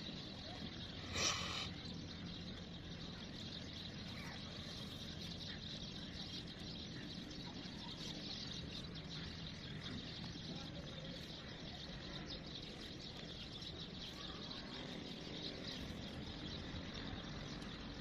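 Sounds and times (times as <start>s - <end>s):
faint bird chirps: 0.0s - 18.0s
outdoor background noise: 0.0s - 18.0s.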